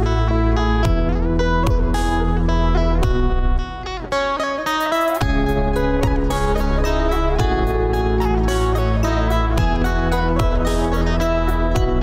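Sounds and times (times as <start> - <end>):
strummed guitar music: 0.0 - 12.0.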